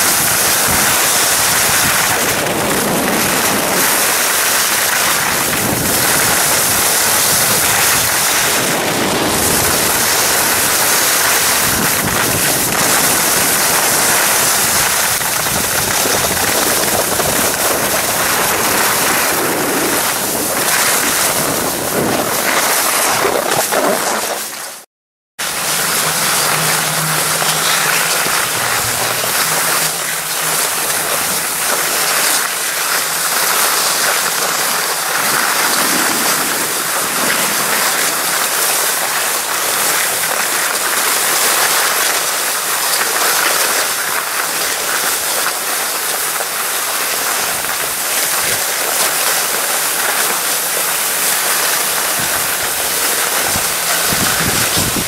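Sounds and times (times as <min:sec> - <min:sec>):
wind buffeting microphone: 0:00.0 - 0:24.7, 0:25.4 - 0:42.2, 0:47.1 - 0:55.0
skis sliding over snow: 0:00.0 - 0:24.8, 0:25.4 - 0:55.0.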